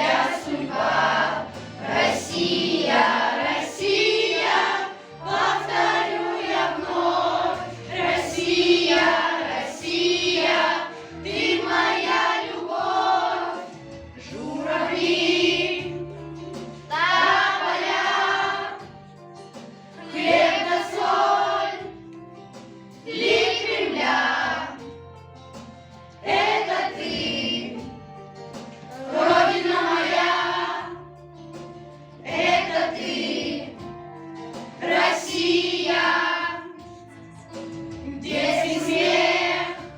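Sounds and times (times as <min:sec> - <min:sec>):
children's choir singing: 0:00.0 - 0:19.0, 0:20.0 - 0:22.0, 0:23.1 - 0:24.9, 0:26.2 - 0:28.0, 0:28.8 - 0:31.0, 0:32.2 - 0:39.9
instrumental accompaniment: 0:00.0 - 0:39.9.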